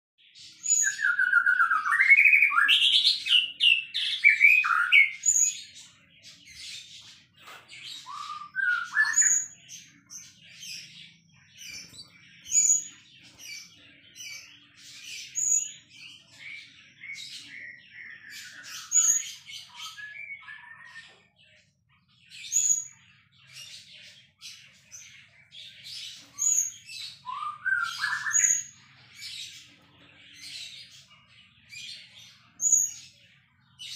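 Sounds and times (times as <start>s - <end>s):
bird singing varied song: 0.2s - 33.9s.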